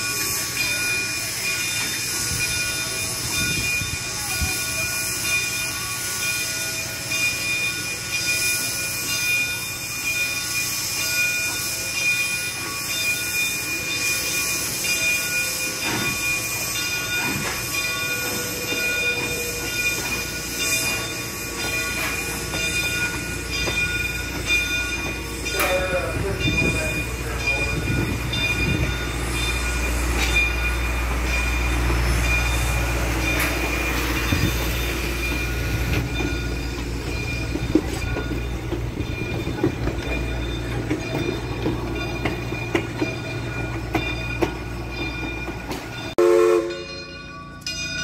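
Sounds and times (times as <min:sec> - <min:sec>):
rumble of rail noise: 0:00.0 - 0:48.0
wheels squealing on rails: 0:00.0 - 0:48.0.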